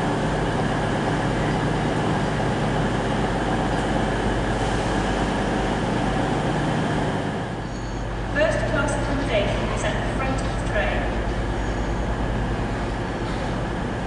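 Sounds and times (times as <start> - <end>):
train engine drone: 0.0 - 14.0
train rail noise: 0.0 - 14.0.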